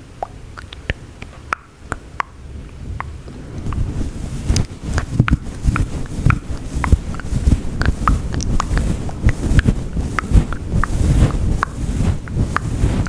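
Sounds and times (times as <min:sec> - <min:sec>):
microphone windscreen rubbing rumble: 0:02.0 - 0:13.0.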